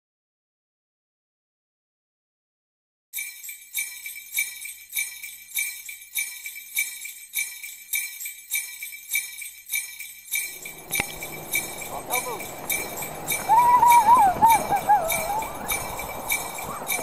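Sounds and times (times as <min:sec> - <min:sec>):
sleigh bells shaking: 0:03.2 - 0:17.0.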